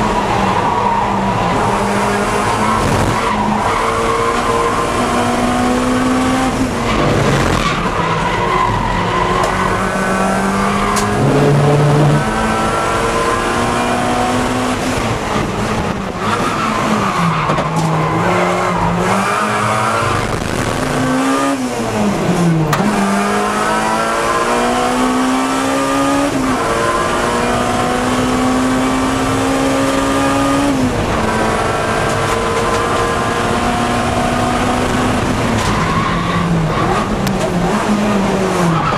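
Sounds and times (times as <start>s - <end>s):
race car engine under hard load: 0.0s - 38.9s.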